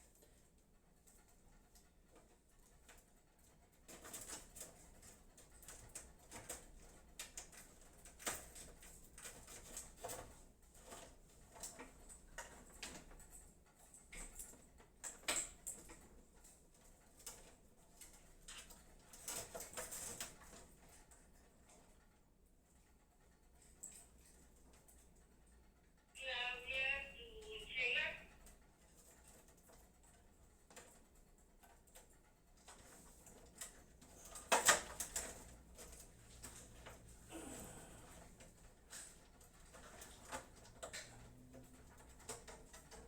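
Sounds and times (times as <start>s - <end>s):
cables rustling and clicking: 0.0s - 26.1s, 28.3s - 43.0s.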